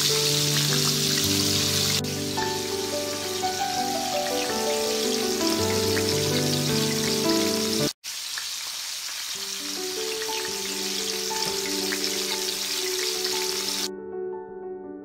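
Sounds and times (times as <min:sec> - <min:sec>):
background music: 0:00.0 - 0:07.9, 0:09.6 - 0:15.0
fish sizzling in oil: 0:00.0 - 0:13.9.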